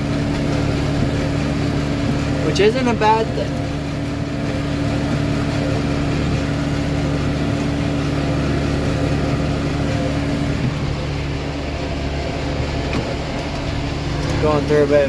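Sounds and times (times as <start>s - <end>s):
forage harvester chopping: 0.0s - 15.0s
tractor engine running: 0.0s - 15.0s.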